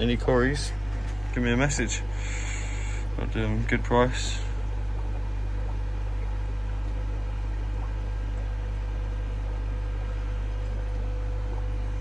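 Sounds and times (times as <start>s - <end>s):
aquarium air pumps humming: 0.0s - 12.0s.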